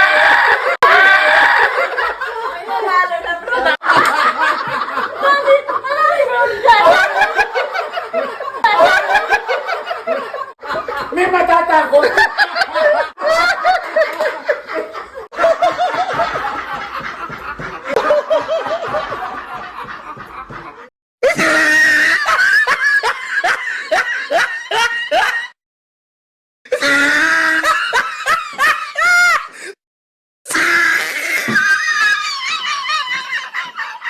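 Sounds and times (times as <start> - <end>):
recorded human laughter: 0.0 - 25.6, 26.7 - 29.8, 30.5 - 34.0.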